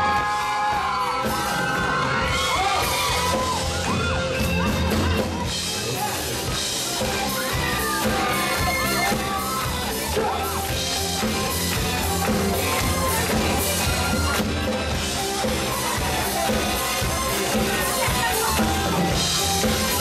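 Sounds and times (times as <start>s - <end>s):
audience screaming and whooping: 0.0s - 20.0s
live rock band playing: 0.0s - 20.0s.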